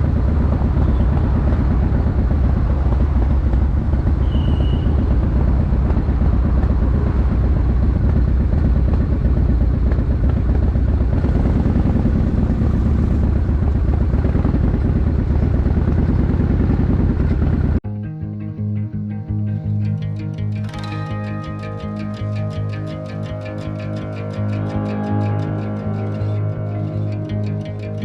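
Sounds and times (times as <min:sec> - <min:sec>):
truck engine and road drone: 0:00.0 - 0:17.8, 0:19.3 - 0:28.0.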